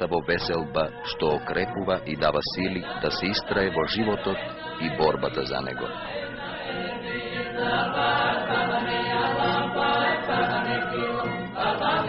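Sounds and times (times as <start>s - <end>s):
choir singing folk song: 0.0s - 12.0s.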